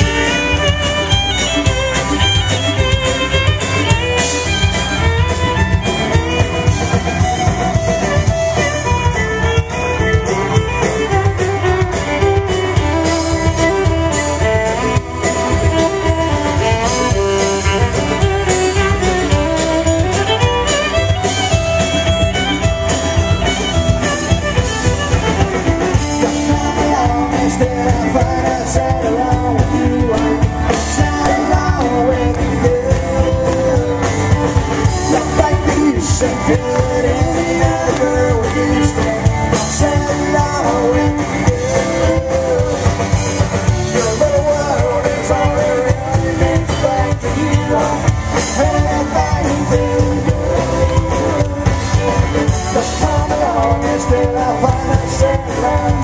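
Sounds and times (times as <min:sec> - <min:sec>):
live rock band with fiddle: 0:00.0 - 0:56.0.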